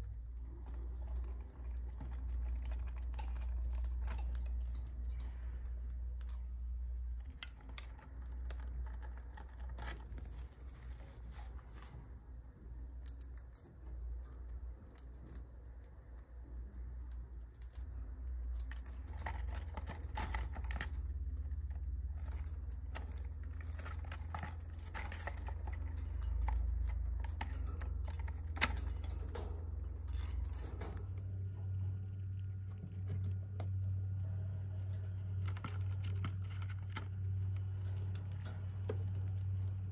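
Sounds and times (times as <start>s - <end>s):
rats gnawing cardboard: 0.0s - 39.9s
steady low hum: 0.0s - 39.9s.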